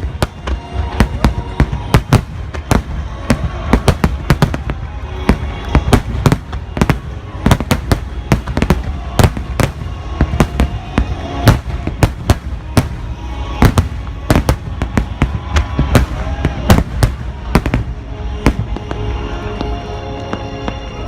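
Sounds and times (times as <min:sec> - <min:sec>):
music playing: 0:00.0 - 0:21.0.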